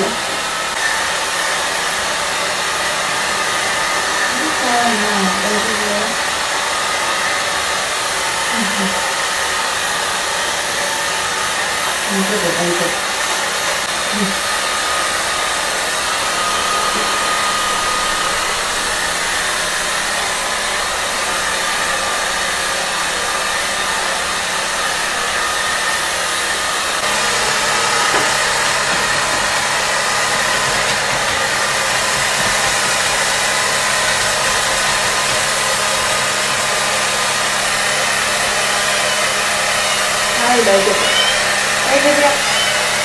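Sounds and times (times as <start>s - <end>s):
hair dryer blowing: 0.0s - 43.0s.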